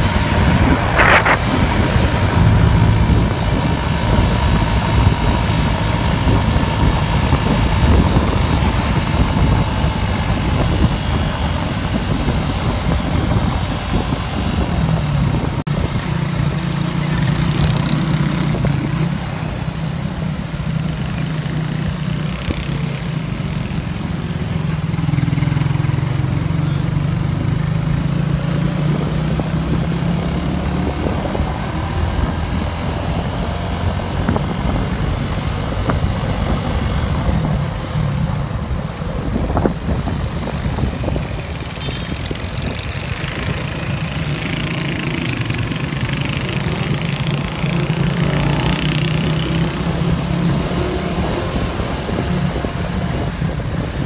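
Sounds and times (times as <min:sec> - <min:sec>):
street traffic noise: 0:00.0 - 0:54.0
wind: 0:00.0 - 0:54.0.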